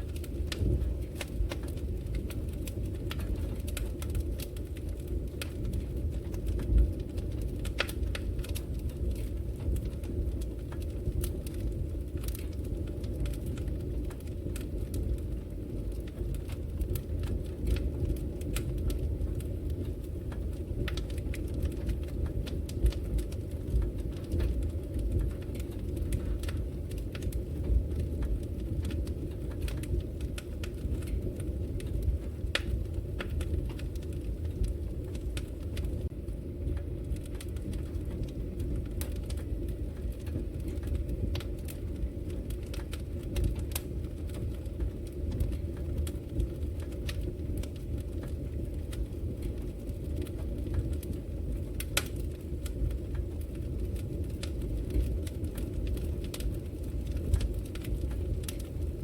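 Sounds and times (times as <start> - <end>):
low rush of flames: 0.0 - 59.0
wood fire crackles and pops: 0.0 - 59.0.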